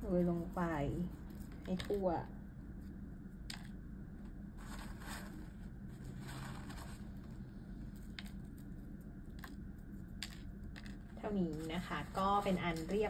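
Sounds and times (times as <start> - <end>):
rustling of sprinkled flakes: 0.0 - 13.0
steady low hum: 0.0 - 13.0.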